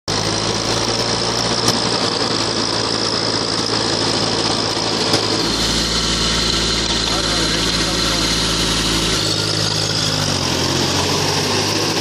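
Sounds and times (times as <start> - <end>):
tractor engine running: 0.1 - 12.0.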